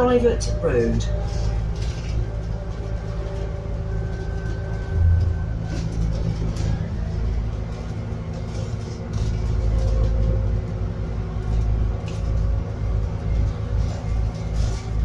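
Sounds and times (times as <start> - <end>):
bus engine rumbling: 0.0 - 15.0
light rattles: 0.0 - 15.0.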